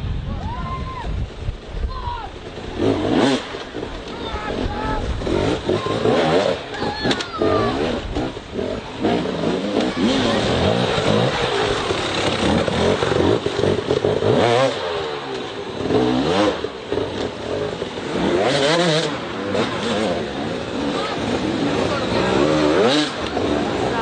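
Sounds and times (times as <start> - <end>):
motocross bike engines revving: 1.8 - 24.0.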